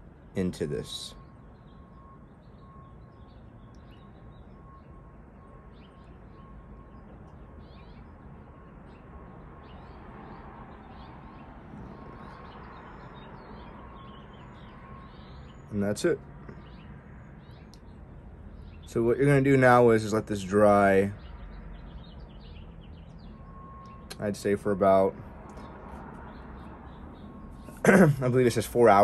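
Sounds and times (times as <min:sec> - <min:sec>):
faint bird chirps: 0:00.4 - 0:28.0.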